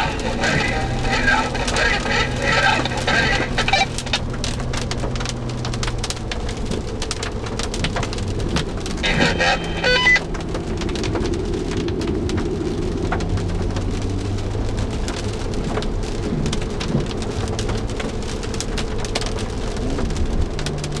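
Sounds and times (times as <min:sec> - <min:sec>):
tyres hissing on wet road: 0:00.0 - 0:04.0, 0:08.2 - 0:21.0
low engine hum: 0:00.0 - 0:21.0
rain ticking on car windshield: 0:00.0 - 0:21.0.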